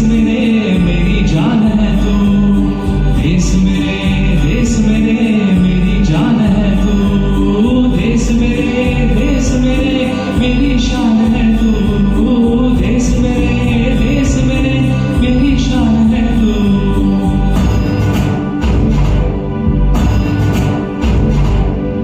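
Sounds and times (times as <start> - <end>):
man singing: 0.0 - 18.2
instrumental accompaniment with light beat: 0.0 - 22.0.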